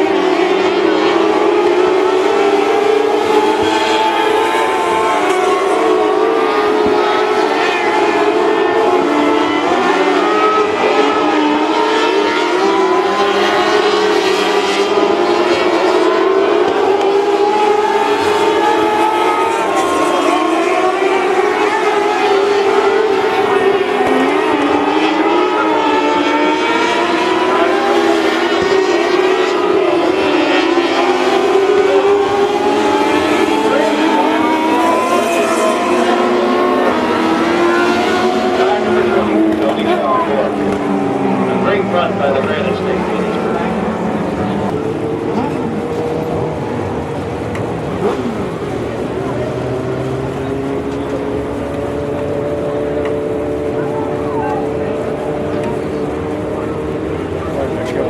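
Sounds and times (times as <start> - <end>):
race car engines running: 0.0 - 58.0.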